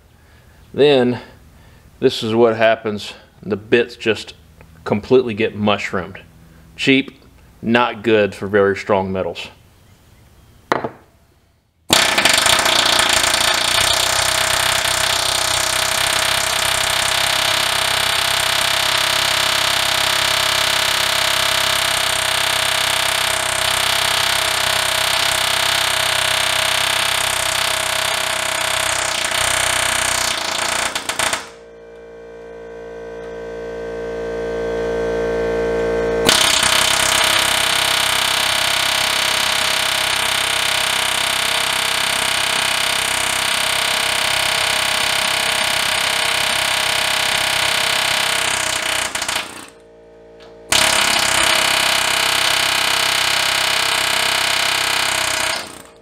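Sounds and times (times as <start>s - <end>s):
steady multi-tone hum: 0.0s - 56.0s.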